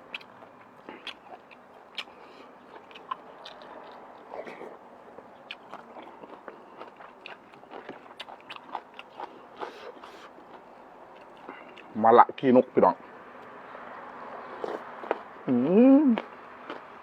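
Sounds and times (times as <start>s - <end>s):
mouth chewing food: 0.0s - 12.0s, 14.3s - 15.4s, 16.1s - 17.0s.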